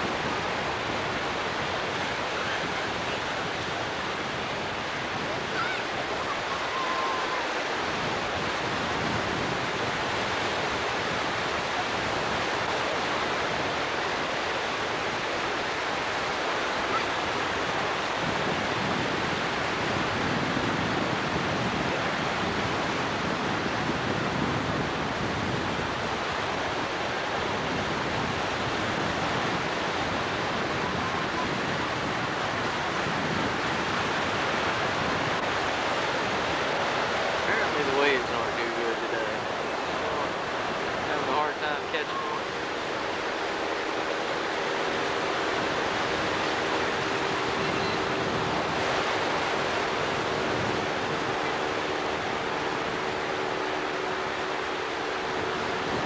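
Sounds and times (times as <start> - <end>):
waves breaking: 0.0 - 56.0
wind on microphone: 0.0 - 56.0.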